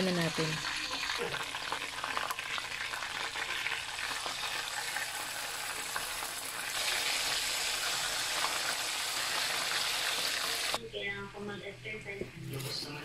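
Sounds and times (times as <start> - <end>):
chicken sizzling in hot oil: 0.0 - 10.8.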